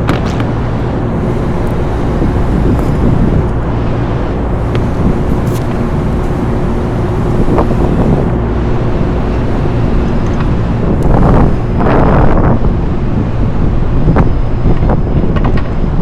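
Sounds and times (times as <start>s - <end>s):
low mechanical drone: 0.0s - 16.0s
wind noise on microphone: 0.0s - 16.0s.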